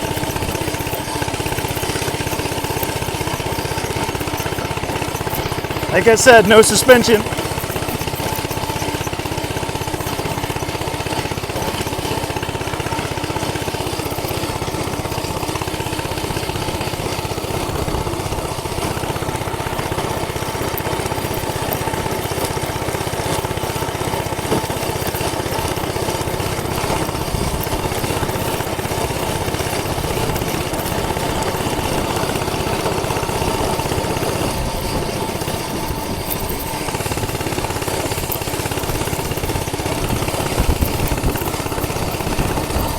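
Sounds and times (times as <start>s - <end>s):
minibike engine running: 0.0s - 42.9s.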